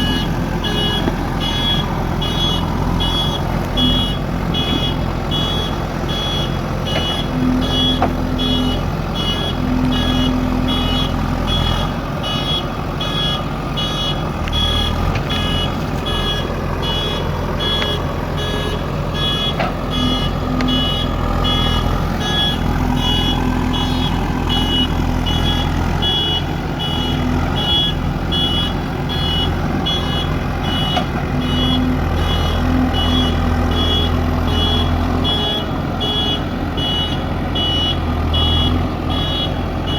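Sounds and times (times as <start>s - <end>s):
diesel engine running: 0.0s - 39.9s
reversing alarm beeping: 0.0s - 39.9s.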